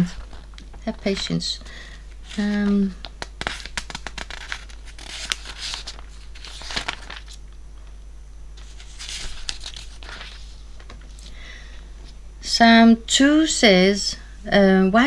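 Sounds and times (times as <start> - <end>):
pages rustling: 0.0 - 12.2
paper crinkling: 0.0 - 12.2
low mains hum: 0.0 - 15.0.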